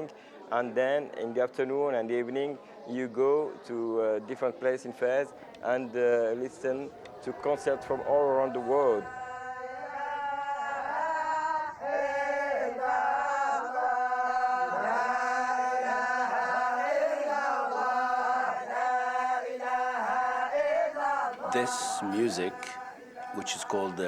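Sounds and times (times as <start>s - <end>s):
group chanting in unison: 2.0s - 24.0s.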